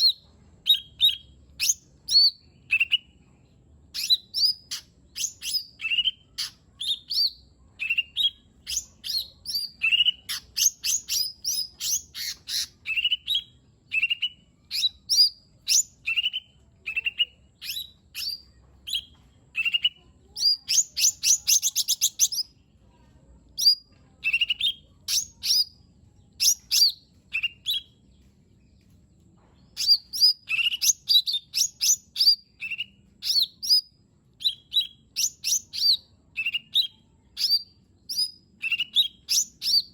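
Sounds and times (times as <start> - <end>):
bird singing whistles and chirps: 0.0 - 3.2, 3.9 - 22.5, 23.6 - 25.8, 26.4 - 28.0, 29.8 - 39.9.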